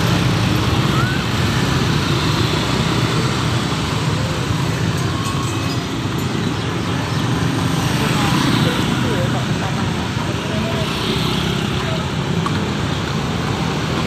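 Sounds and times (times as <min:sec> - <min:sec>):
cars passing: 0:00.0 - 0:14.0
motor scooters passing: 0:00.0 - 0:14.0.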